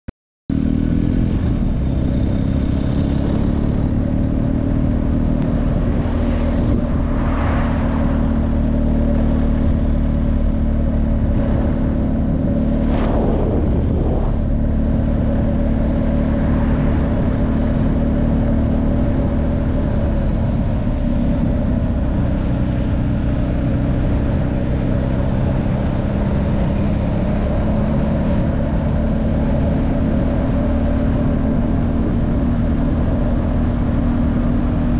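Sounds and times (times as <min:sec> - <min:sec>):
motorcycle engine running: 0:00.5 - 0:34.9
passing vehicle noise: 0:00.9 - 0:34.9
wind buffeting helmet camera: 0:01.4 - 0:34.9.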